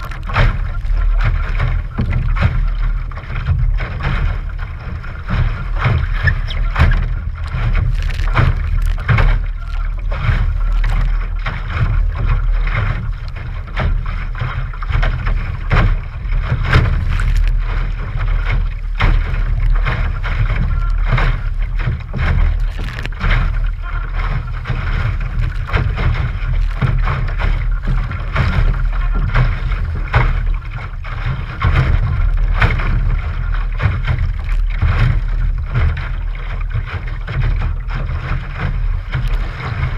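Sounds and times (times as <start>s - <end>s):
water slapping against boat hull: 0.0s - 39.9s
wind rumbling on microphone: 0.0s - 39.9s.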